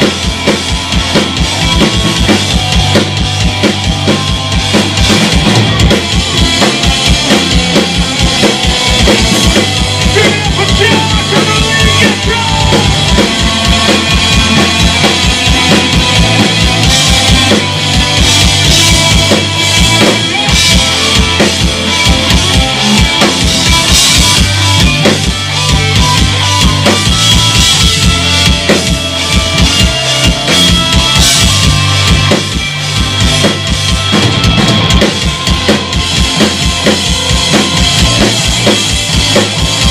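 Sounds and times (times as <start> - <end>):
drum kit: 0.0 - 39.9
live rock band: 0.0 - 39.9.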